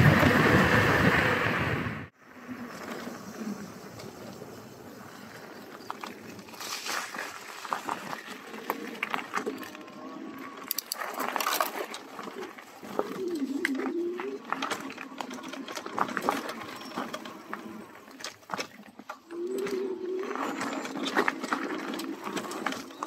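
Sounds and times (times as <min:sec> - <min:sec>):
bike tyres crunching gravel: 0:00.0 - 0:23.0
bike clicks and rattles: 0:03.9 - 0:23.0.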